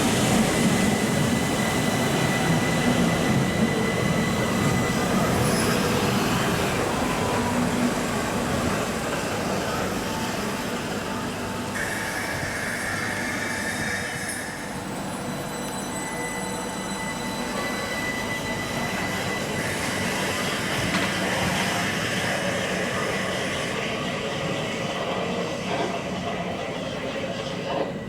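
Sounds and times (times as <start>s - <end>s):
electric train running: 0.0s - 28.0s.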